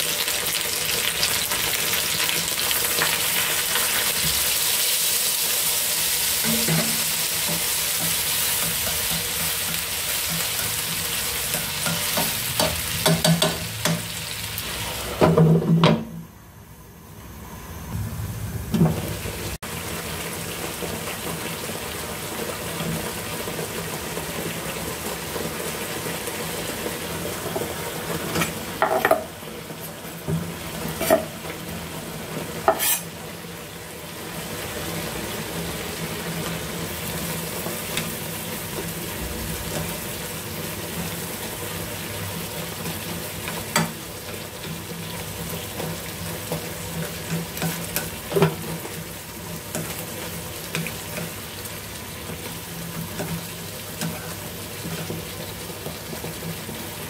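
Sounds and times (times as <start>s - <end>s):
food sizzling in a frying pan: 0.0s - 16.1s, 18.8s - 57.0s.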